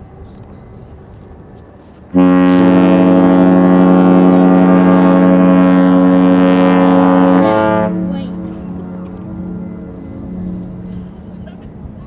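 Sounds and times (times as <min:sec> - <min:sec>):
ship horn deep blast: 0:02.1 - 0:12.0.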